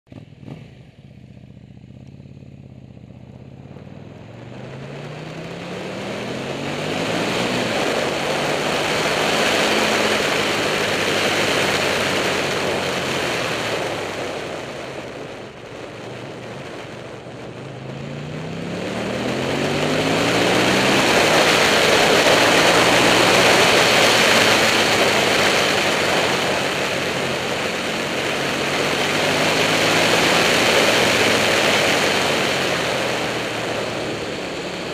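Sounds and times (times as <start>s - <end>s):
motorcycle engine accelerating: 0.0s - 34.9s
wind noise on camera: 3.8s - 34.9s.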